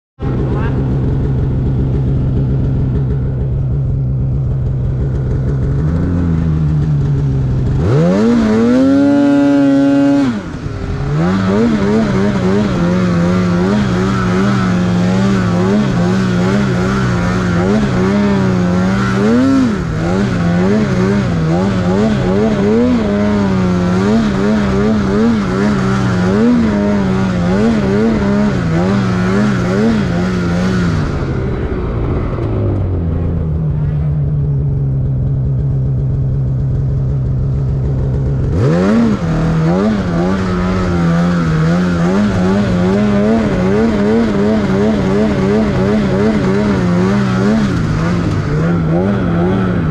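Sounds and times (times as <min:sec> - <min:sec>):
snowmobile engine revving: 0:00.2 - 0:49.9.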